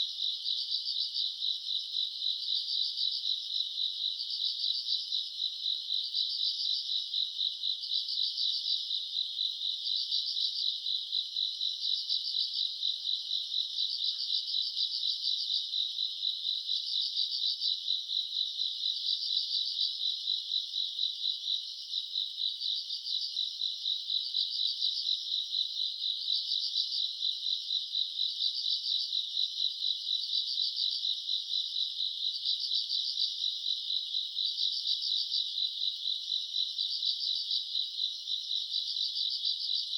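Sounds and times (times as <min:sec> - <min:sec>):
insect chirp: 0:00.0 - 0:39.9.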